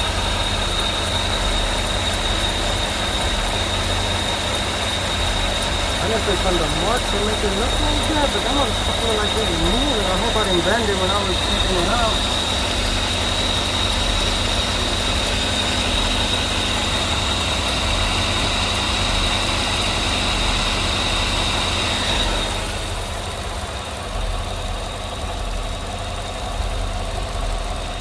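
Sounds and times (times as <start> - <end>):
thin high whine: 0.0 - 22.8
car engine idling: 0.0 - 28.0.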